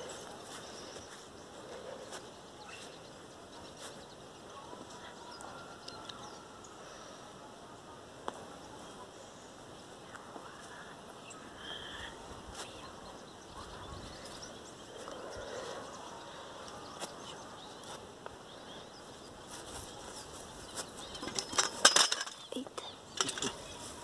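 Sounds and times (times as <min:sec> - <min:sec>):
faint bird chirps: 0:00.0 - 0:07.8, 0:08.8 - 0:21.6.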